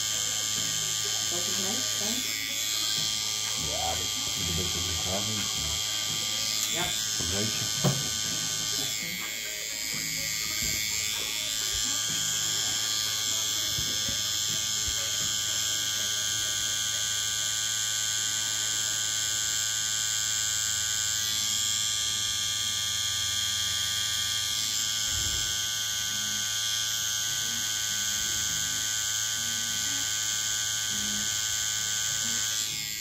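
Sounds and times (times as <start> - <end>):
tattoo machine buzzing: 0.0 - 33.0.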